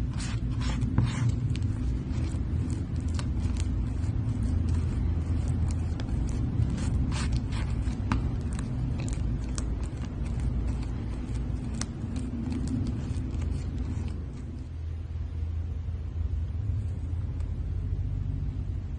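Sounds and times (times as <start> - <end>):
steady low rumble: 0.0 - 18.9.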